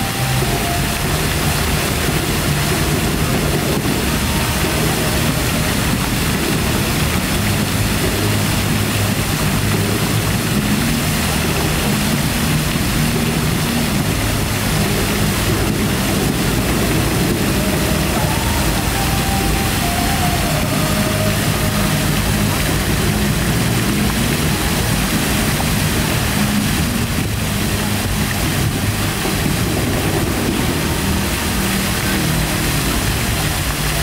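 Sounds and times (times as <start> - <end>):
fountain water splashing into pool: 0.0 - 34.0
low traffic engine hum: 0.0 - 34.0.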